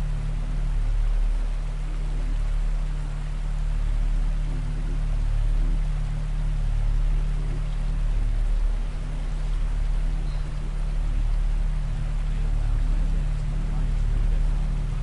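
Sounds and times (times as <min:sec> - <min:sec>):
low steady hum: 0:00.0 - 0:15.0
rushing water noise: 0:00.0 - 0:15.0.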